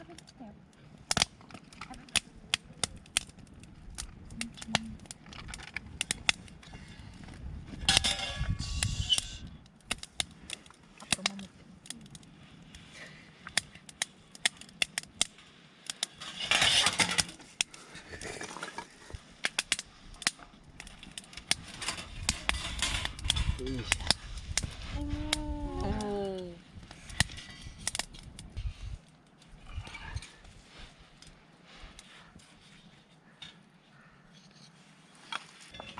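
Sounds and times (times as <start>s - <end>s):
campfire crackling and popping: 0.0s - 33.8s.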